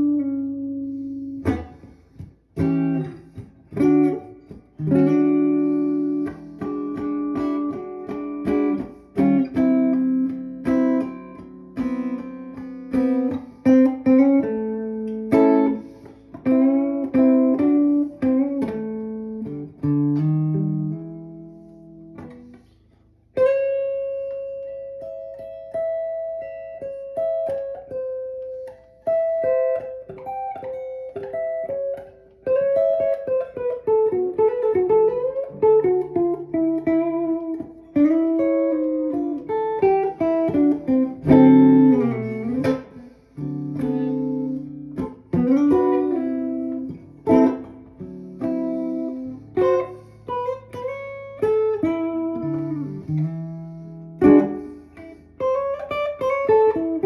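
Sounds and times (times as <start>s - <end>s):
electric guitar blues: 0.0s - 57.0s.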